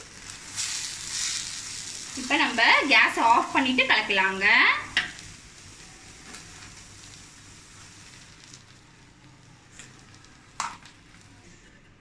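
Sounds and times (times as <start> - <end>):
faint food sizzling in a pan: 0.0 - 11.7.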